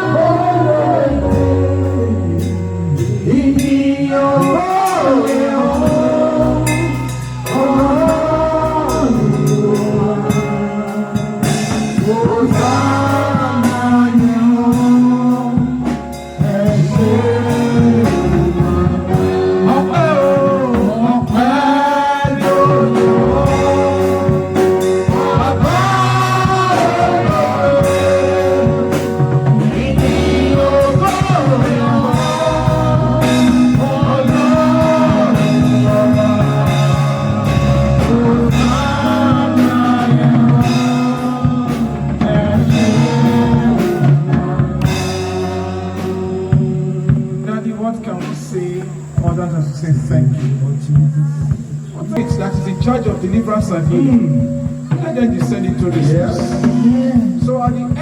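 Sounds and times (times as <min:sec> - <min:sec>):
person singing: 0:00.0 - 0:49.1, 0:51.1 - 0:58.0
bass: 0:00.0 - 0:58.0
drums in a steady beat: 0:00.0 - 0:58.0
keyboard: 0:00.0 - 0:58.0.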